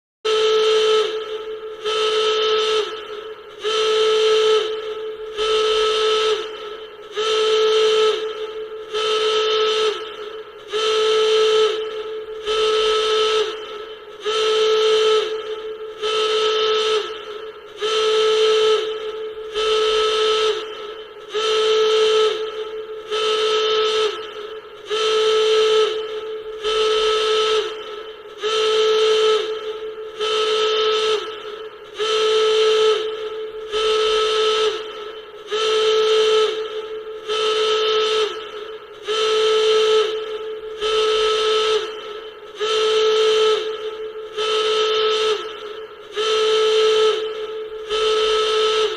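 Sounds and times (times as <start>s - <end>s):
klaxon alarm horn blasts: 0.2s - 48.9s.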